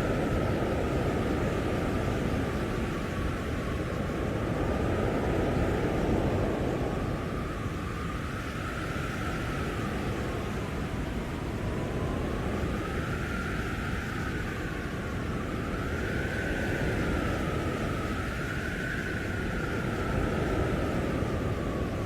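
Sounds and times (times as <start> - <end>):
howling blizzard wind: 0.0 - 22.0.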